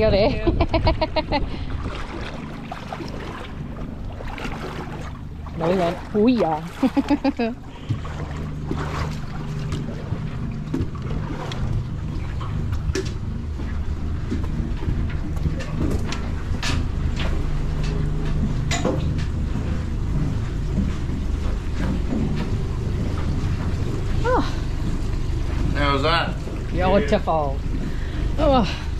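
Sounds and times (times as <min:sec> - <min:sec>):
footsteps on metal deck: 0:00.0 - 0:28.1
boat engine idling: 0:00.0 - 0:28.9.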